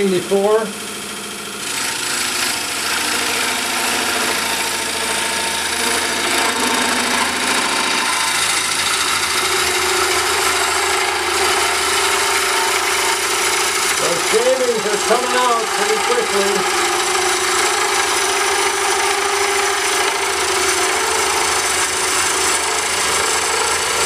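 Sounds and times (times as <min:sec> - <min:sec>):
cutter blade shearing wood: 0:00.0 - 0:24.0
lathe running: 0:00.0 - 0:24.0.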